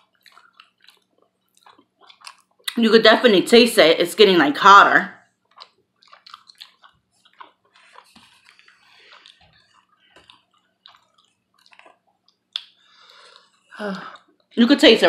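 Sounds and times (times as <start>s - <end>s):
person chewing wet food: 0.0s - 2.8s, 5.2s - 14.6s.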